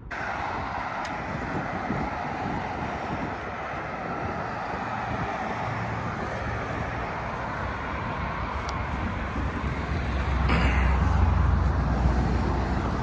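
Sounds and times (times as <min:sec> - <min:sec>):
road traffic hum: 0:00.0 - 0:13.0
wind buffeting microphone: 0:00.0 - 0:13.0.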